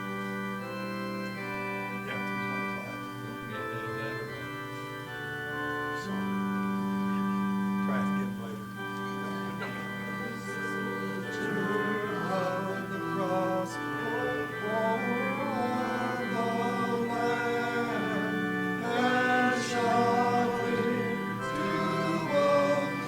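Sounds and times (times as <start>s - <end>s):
congregation singing a hymn: 0.0s - 23.0s
organ: 0.0s - 23.0s.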